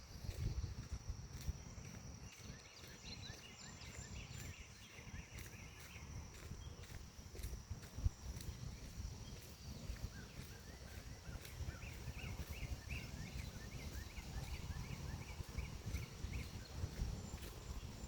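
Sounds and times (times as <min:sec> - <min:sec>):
wind rumble on microphone: 0:00.0 - 0:18.0
bird chirping: 0:00.1 - 0:18.0.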